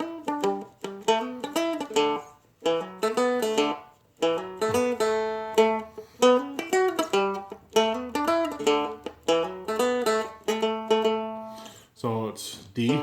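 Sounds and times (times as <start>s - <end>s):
dulcimer playing blues riff: 0.0s - 11.8s, 12.8s - 13.0s.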